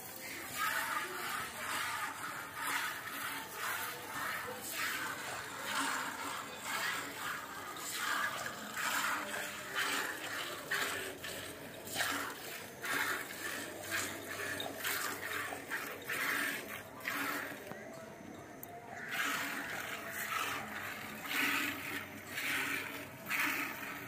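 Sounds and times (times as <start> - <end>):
milk squirting into steel pot: 0.1 - 17.8, 19.0 - 24.0.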